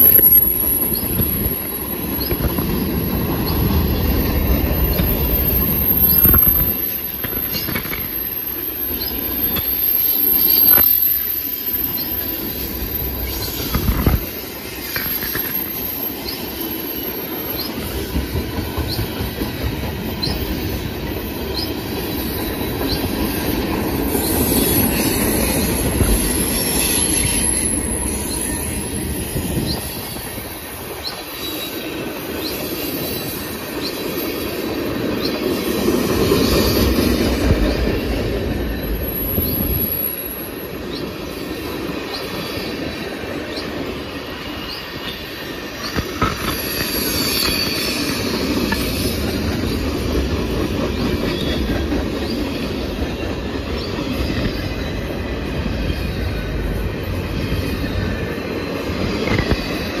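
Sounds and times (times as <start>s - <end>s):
high wheel squeal: 0.0s - 60.0s
steel wheels rumbling on rail: 0.0s - 60.0s.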